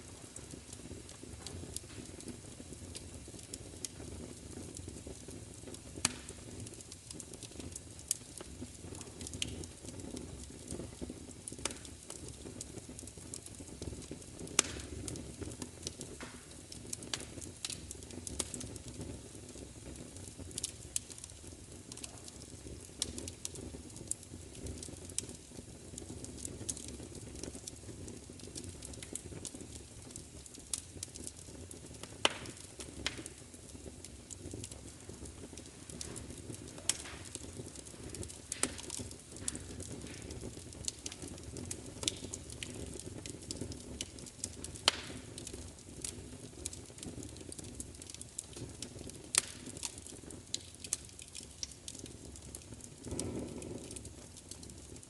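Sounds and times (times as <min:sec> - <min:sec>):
low rumble of burning: 0:00.0 - 0:55.0
wood fire crackling: 0:00.0 - 0:55.0.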